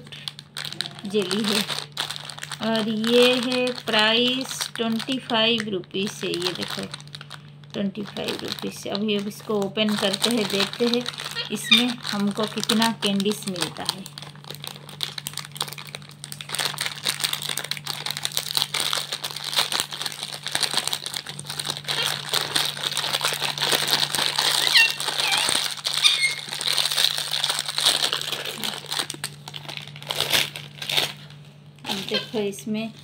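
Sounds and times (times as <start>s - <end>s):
plastic pouch crinkling: 0.0s - 33.0s
plastic wrappers rustling: 0.0s - 33.0s.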